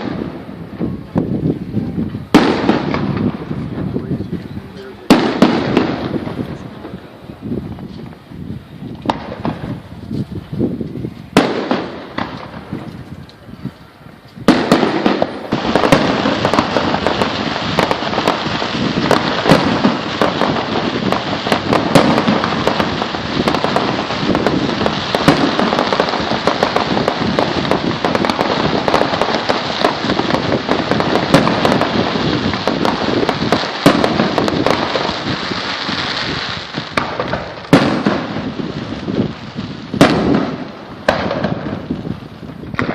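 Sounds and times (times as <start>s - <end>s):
fireworks bangs: 0.0s - 42.9s
rapid fireworks barrage: 0.0s - 42.9s.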